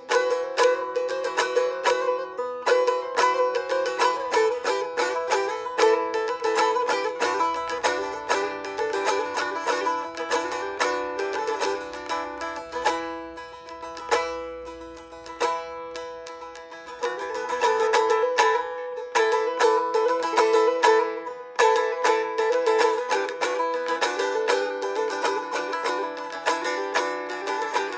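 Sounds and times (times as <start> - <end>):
plucked string melody: 0.0 - 27.9.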